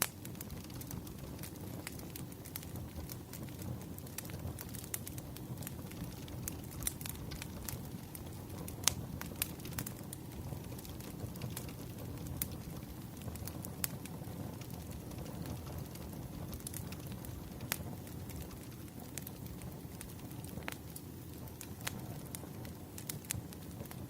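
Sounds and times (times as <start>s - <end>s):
logs crackling and popping: 0.0s - 24.0s
wood fire rumbling: 0.0s - 24.0s.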